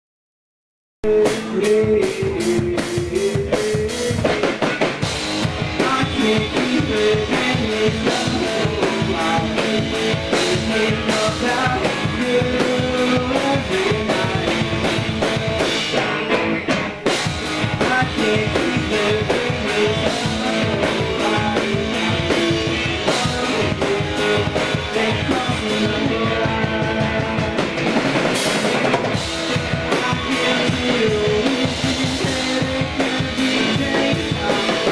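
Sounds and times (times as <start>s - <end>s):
rock music with drums and guitar: 1.0s - 34.9s.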